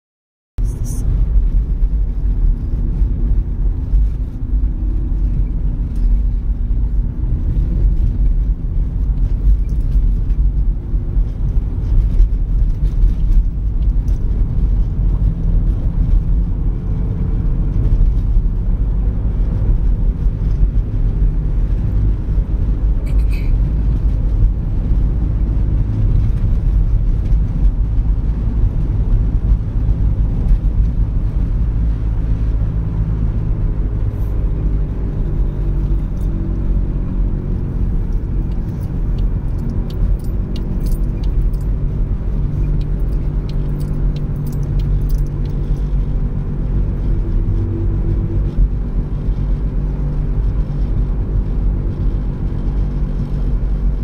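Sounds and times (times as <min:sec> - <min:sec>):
car road and engine rumble: 0:00.6 - 0:54.0.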